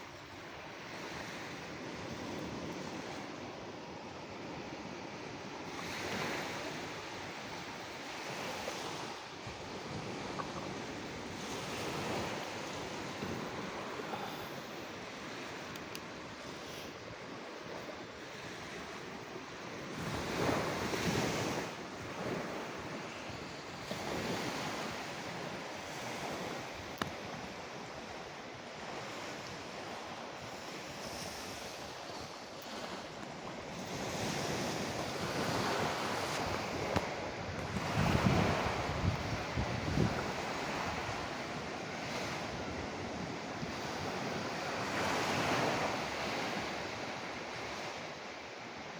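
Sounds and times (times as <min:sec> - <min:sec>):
ocean waves breaking on shore: 0:00.0 - 0:48.9
wind: 0:00.0 - 0:48.9.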